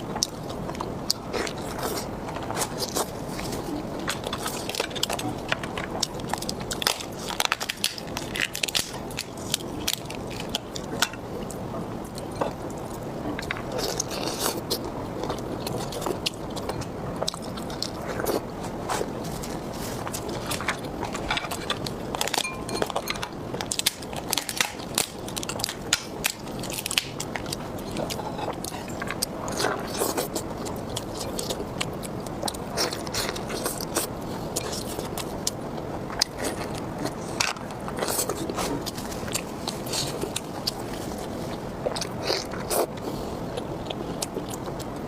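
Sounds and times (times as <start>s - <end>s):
crunchy chewing: 0.0s - 45.0s.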